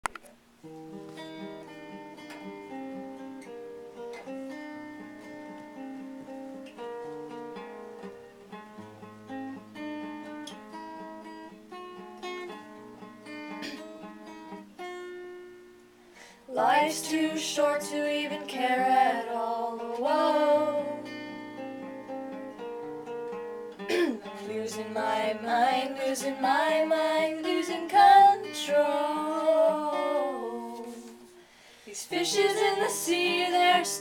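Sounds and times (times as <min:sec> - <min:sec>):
acoustic guitar chords: 0:00.0 - 0:34.0.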